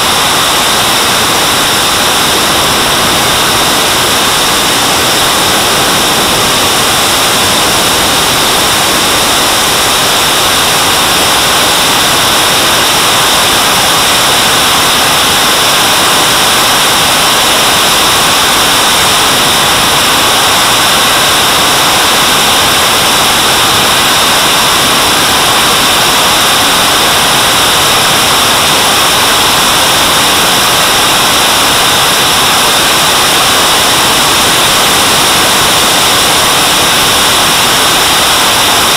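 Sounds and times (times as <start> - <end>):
high turbine whine: 0.0 - 38.9
jet turbine exhaust rushing: 0.0 - 38.9.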